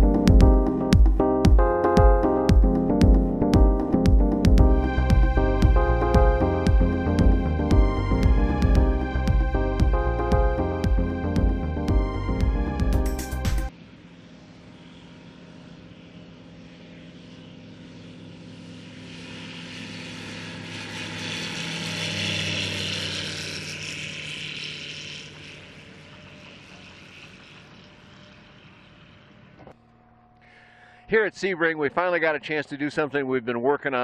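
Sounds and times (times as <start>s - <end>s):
light airplane taking off: 0.0s - 34.0s.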